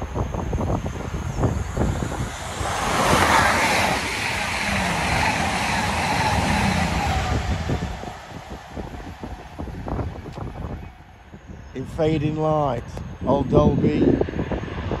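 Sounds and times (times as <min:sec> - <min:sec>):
train rushing past: 0:00.0 - 0:12.4
low gusty rumble: 0:00.0 - 0:15.0.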